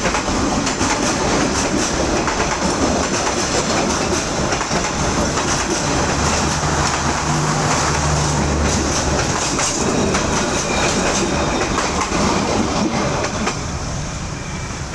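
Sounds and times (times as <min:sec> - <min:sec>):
train wheels rumbling and clattering: 0:00.0 - 0:14.9.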